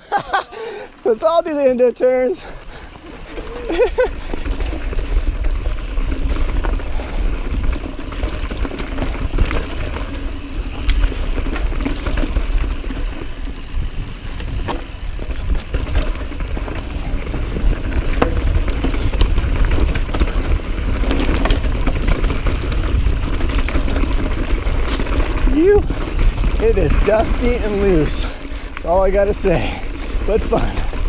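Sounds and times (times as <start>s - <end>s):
bike clicks and rattles: 0.0s - 31.0s
tyres crunching over dirt: 1.0s - 31.0s
wind rumble on microphone: 3.2s - 31.0s.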